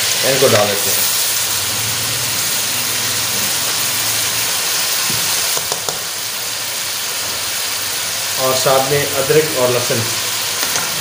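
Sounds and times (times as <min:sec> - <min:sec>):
beef sizzling in pot: 0:00.0 - 0:11.0.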